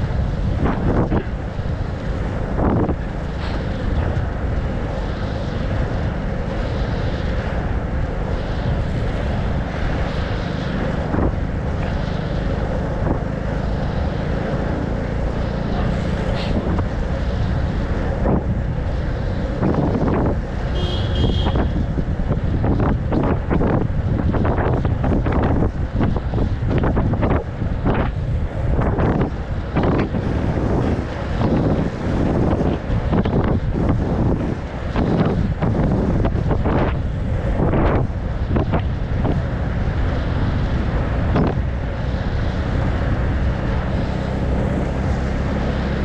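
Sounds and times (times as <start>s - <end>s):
skate wheels rolling on asphalt: 0.0s - 46.0s
wind rushing over microphone: 0.0s - 46.0s.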